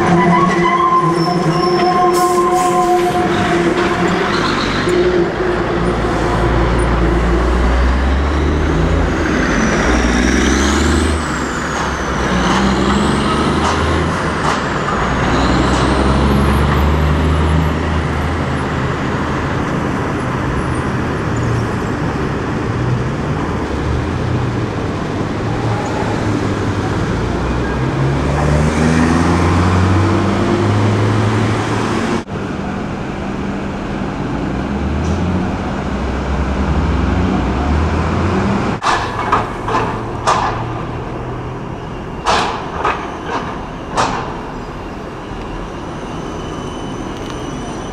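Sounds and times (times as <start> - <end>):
tram going by: 0.0 - 47.9
trucks and cars pulling away: 0.0 - 47.9.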